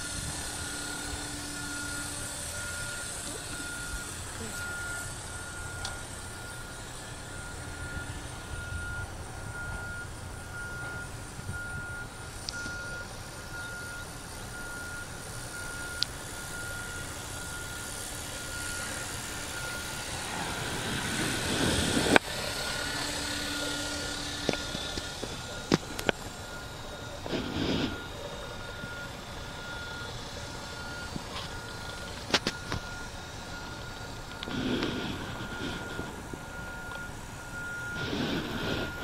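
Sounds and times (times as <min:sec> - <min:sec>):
short beeps: 0:00.0 - 0:20.0, 0:22.6 - 0:39.0
model helicopter high whine: 0:00.0 - 0:39.0.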